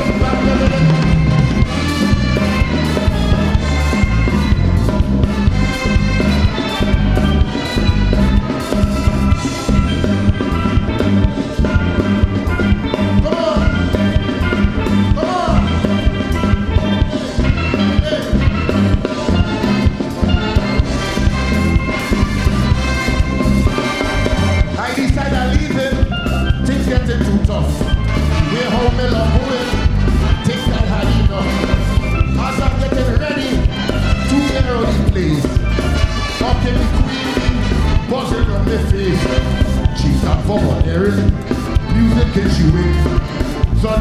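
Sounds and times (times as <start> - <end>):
bass and drums dance beat: 0.0 - 44.0
horn section: 0.0 - 44.0.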